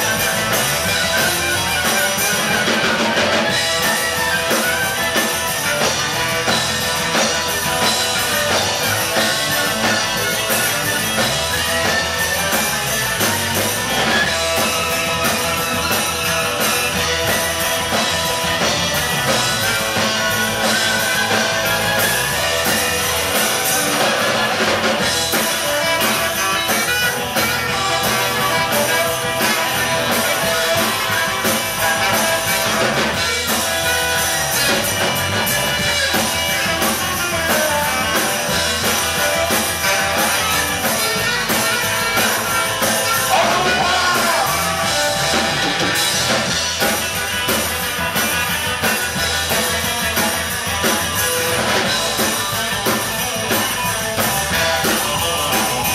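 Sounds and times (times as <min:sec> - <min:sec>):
live rock band: 0:00.0 - 0:55.9.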